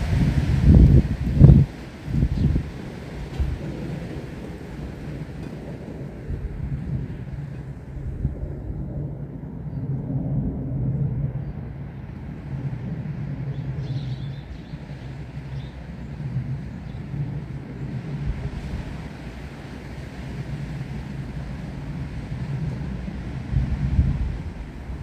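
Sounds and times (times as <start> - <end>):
rustling leaves: 0.0 - 9.6, 11.5 - 25.0
gusty wind rumbling: 0.0 - 25.0.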